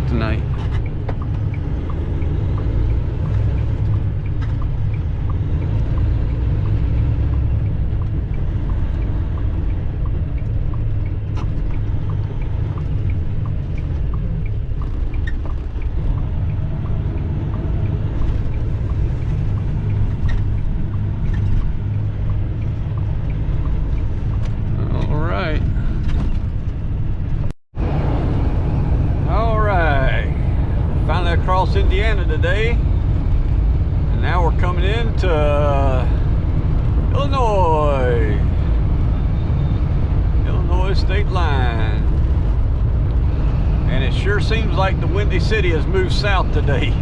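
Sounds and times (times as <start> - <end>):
engine and road rumble: 0.0 - 47.0.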